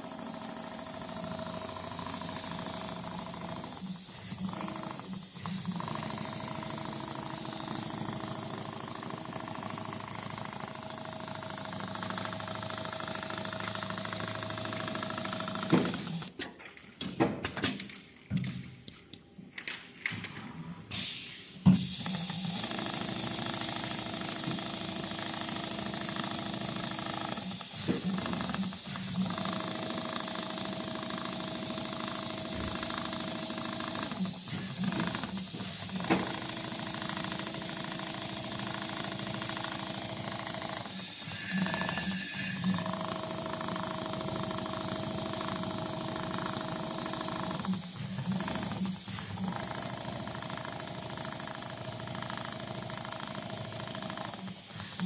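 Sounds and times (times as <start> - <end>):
sewing machine running: 4.2 - 16.3, 21.8 - 55.0.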